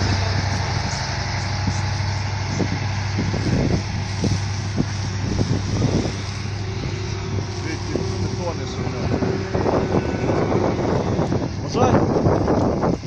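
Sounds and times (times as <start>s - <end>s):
even hiss: 0.0s - 13.0s
trolleybus motor hum: 0.0s - 13.0s.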